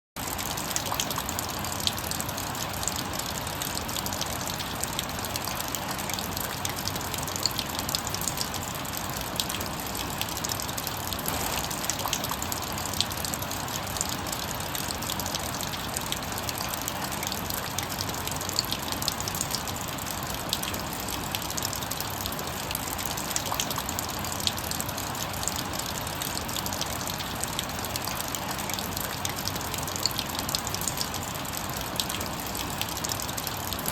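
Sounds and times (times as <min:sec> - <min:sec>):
rainwater dripping off roof: 0:00.2 - 0:33.9
steady rain hiss: 0:00.2 - 0:33.9.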